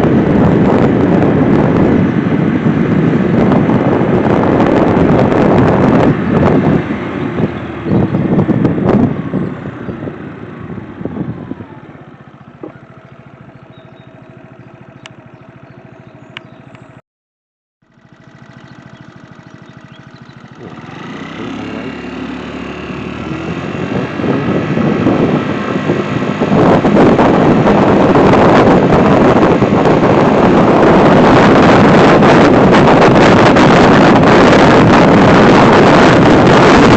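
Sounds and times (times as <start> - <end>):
scooter engine running: 0.0 - 17.0, 17.8 - 36.9
wind buffeting microphone: 0.0 - 17.0, 18.3 - 36.9.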